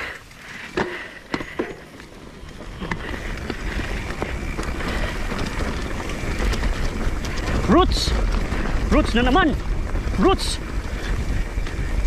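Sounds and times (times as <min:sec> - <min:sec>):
bike rattling: 0:00.0 - 0:12.0
tyres rumbling on dirt: 0:00.0 - 0:12.0
bike knocking over bumps: 0:00.6 - 0:11.9.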